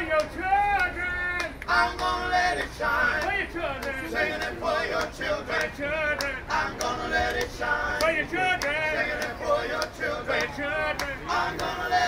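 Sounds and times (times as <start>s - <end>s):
men singing in harmony: 1.7s - 12.0s.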